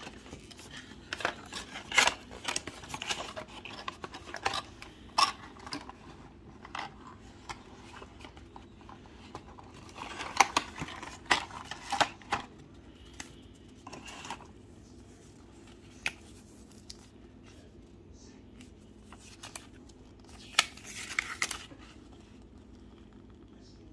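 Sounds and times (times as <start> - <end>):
cardboard and paper handling: 0.0 - 22.4.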